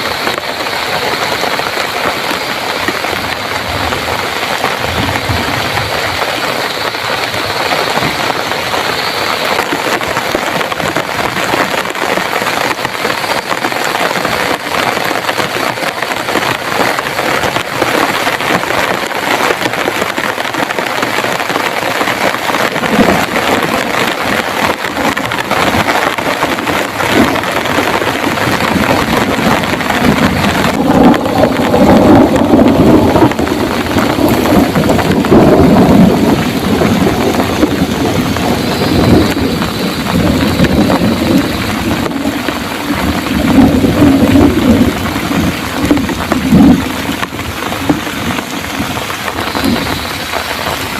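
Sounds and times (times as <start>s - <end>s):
heavy rain pouring: 0.0s - 50.9s
thunder rumbling: 0.0s - 50.9s.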